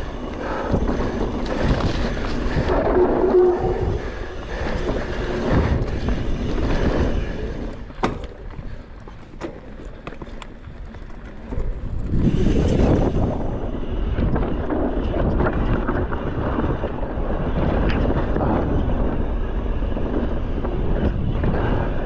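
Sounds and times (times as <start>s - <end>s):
bike rattling: 0.0s - 22.0s
tyres rolling on dirt: 0.0s - 22.0s
wind buffeting microphone: 0.0s - 22.0s.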